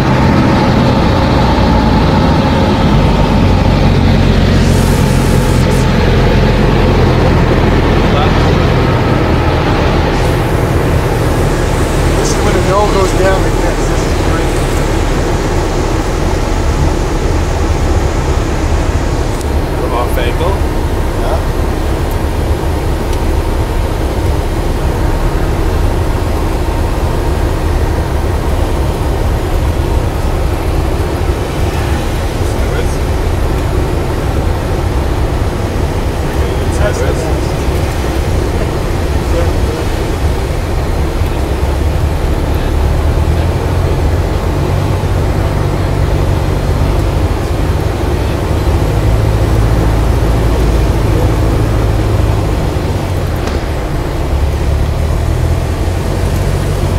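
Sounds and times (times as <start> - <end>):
airflow noise: 0.0 - 56.9
light aircraft engine drone: 0.0 - 56.9.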